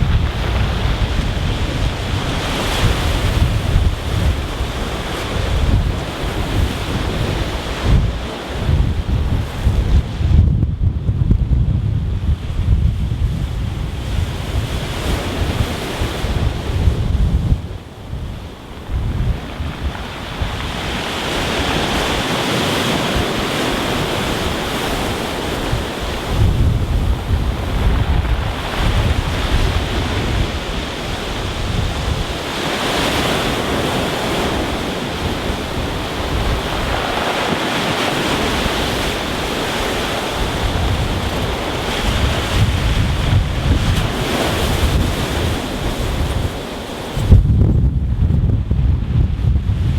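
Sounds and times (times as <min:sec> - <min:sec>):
waves on a stony beach: 0:00.0 - 0:10.4, 0:12.2 - 0:47.5
wind buffeting microphone: 0:00.0 - 0:49.9.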